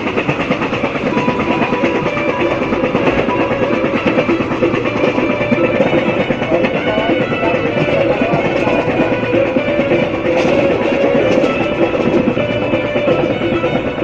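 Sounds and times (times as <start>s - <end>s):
guitar music: 0.0s - 14.0s
moving train running noise: 0.0s - 14.0s.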